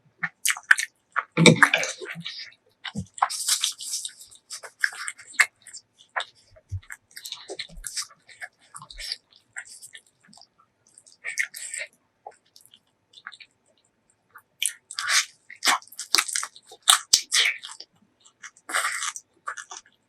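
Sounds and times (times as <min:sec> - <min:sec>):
close chewing with wet clicks: 0:00.2 - 0:20.0.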